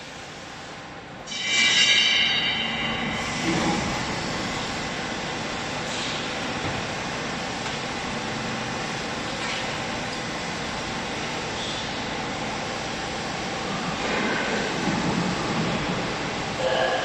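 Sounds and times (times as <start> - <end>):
hydraulic baling press running: 1.3 - 17.0.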